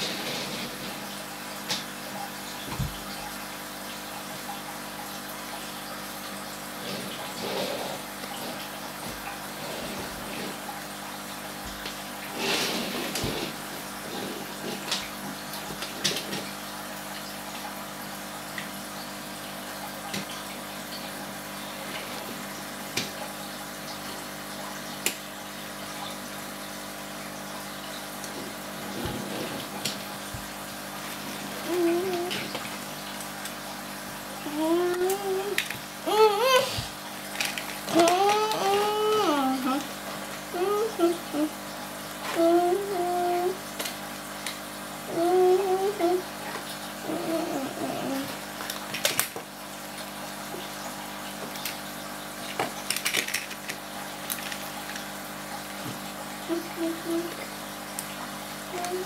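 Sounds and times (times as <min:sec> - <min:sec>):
aquarium filter water trickling: 0:00.0 - 0:59.0.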